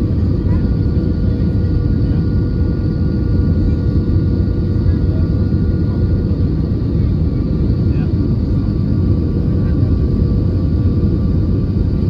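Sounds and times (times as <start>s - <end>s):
faint engine tones: 0.0s - 12.0s
rumble of engines and rushing air: 0.0s - 12.0s.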